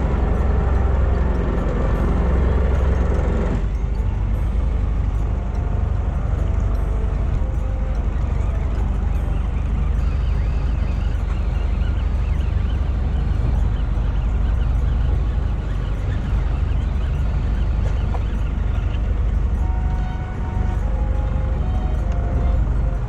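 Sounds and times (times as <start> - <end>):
boat engine low rumble: 0.0 - 23.0
water against hull: 0.0 - 23.0.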